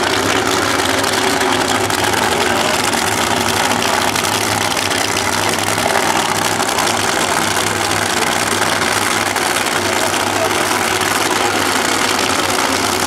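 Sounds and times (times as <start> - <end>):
drag racing engines idling: 0.0 - 13.0.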